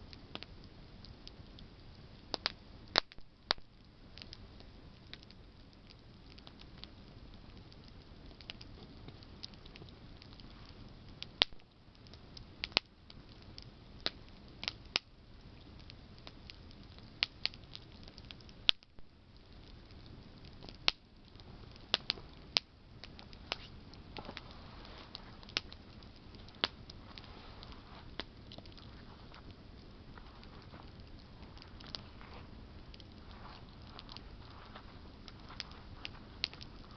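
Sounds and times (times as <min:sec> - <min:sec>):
campfire crackling and popping: 0:00.0 - 0:36.9.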